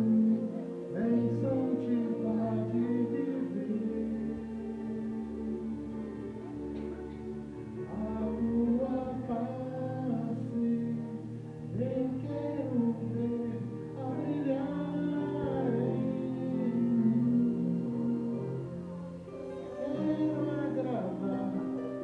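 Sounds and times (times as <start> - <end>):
sustained musical backing: 0.0 - 22.0
voices singing: 0.0 - 22.0.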